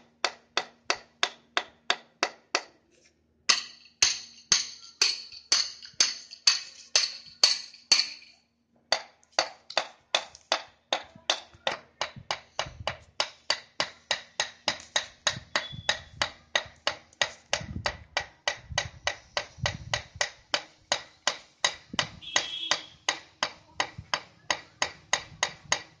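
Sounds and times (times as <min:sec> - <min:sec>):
hammer striking steel bar: 0:00.2 - 0:02.8, 0:03.5 - 0:25.9.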